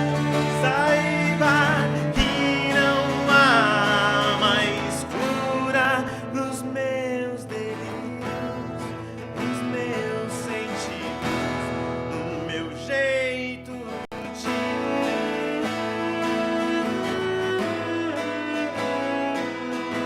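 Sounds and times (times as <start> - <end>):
folk music with acoustic guitar: 0.0 - 20.0.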